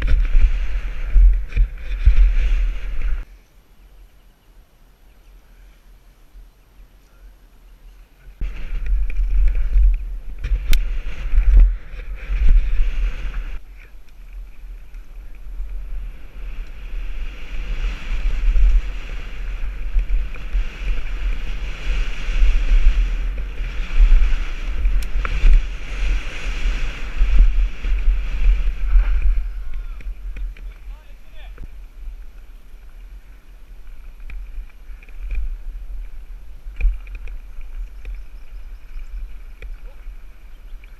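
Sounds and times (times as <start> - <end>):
wind buffeting microphone: 0.0 - 3.3, 8.3 - 40.9
bike tyres rolling on trail: 0.0 - 40.9.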